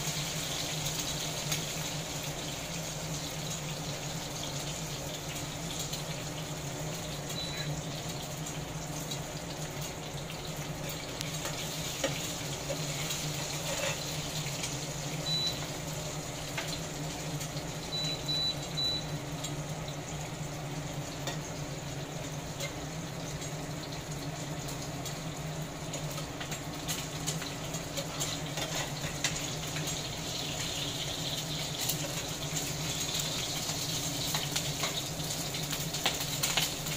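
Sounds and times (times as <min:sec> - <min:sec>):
eggs sizzling in a pan: 0:00.0 - 0:36.9
induction cooktop hum: 0:00.0 - 0:36.9.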